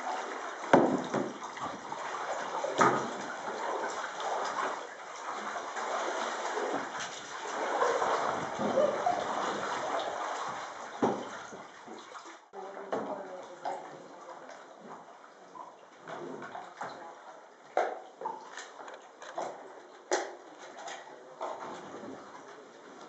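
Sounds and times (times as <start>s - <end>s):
paddles splashing in water: 0.0s - 23.0s.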